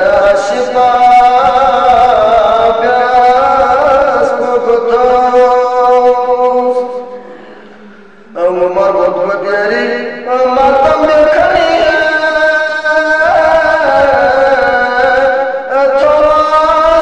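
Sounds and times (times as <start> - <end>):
man singing ornamented notes: 0.0 - 17.0.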